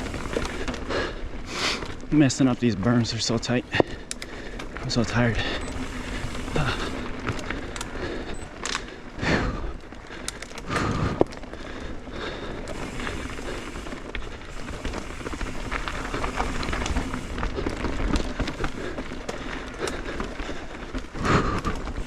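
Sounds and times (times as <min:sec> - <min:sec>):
bike rattling and clicking: 0:00.0 - 0:22.0
bike tyres on dirt: 0:00.0 - 0:22.0.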